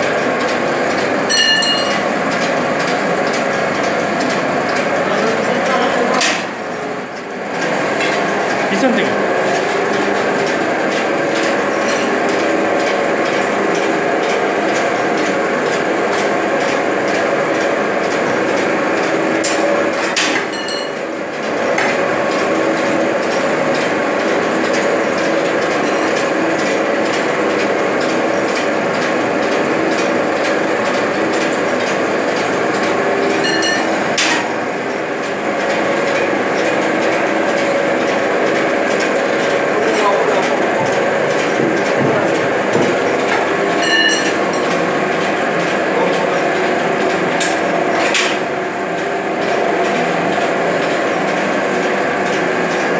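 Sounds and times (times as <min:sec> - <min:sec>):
noodle machine clattering: 0:07.2 - 0:52.9.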